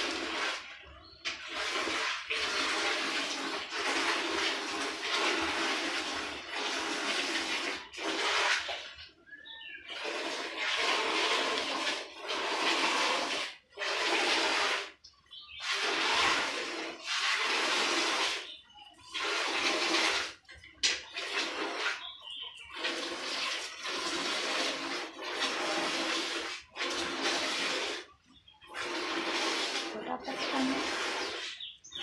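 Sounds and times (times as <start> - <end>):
milk squirting into metal pail: 0.0 - 32.0.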